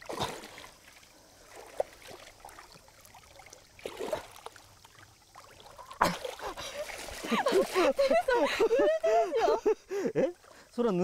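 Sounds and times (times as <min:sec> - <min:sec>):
shallow running water: 0:00.0 - 0:11.0.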